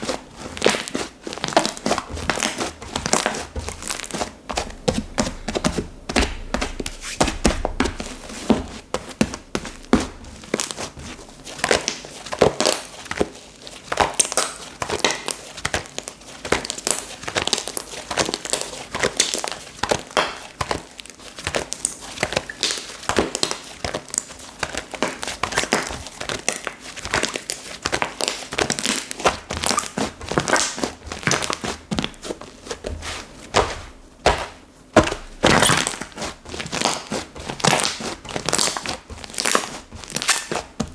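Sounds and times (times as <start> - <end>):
slime being squished by hand: 0.0 - 40.9.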